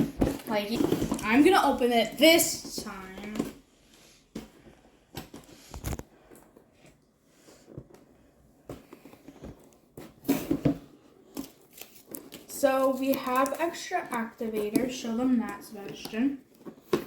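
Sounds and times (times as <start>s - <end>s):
box contents rustling and knocking: 0.0s - 17.0s.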